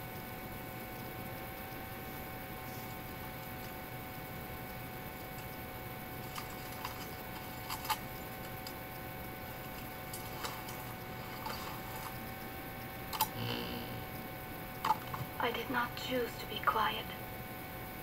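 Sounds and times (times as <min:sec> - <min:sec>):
faint hiss and hum: 0:00.0 - 0:18.0.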